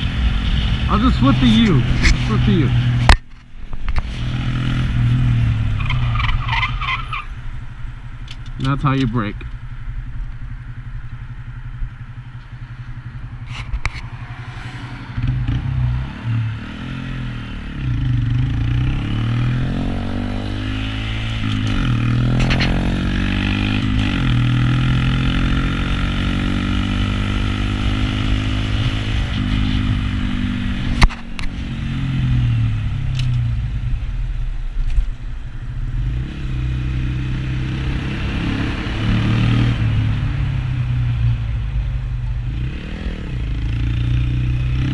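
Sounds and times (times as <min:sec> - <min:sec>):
motorcycle engine revving: 0:00.0 - 0:34.2, 0:35.8 - 0:44.9.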